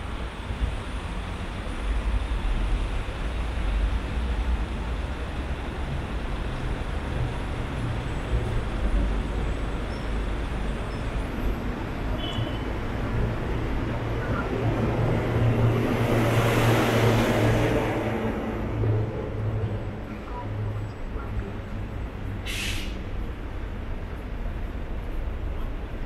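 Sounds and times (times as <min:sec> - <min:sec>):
city road traffic rumble: 0:00.0 - 0:26.0.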